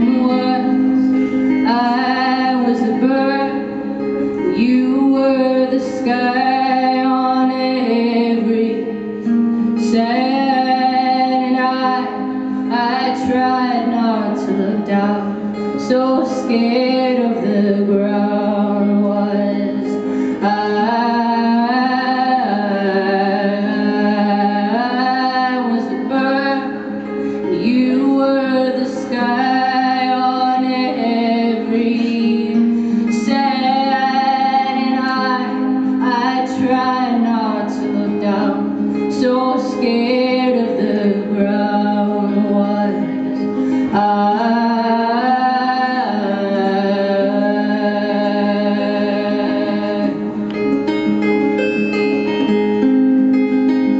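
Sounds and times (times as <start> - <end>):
woman singing: 0.0 - 50.7
acoustic guitar: 0.0 - 53.9.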